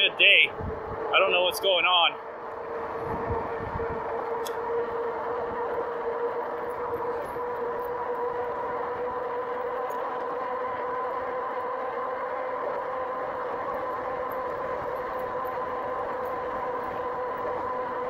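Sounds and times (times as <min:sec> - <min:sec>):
electric bike motor whine: 0:00.0 - 0:18.0
road and air noise: 0:00.0 - 0:18.0.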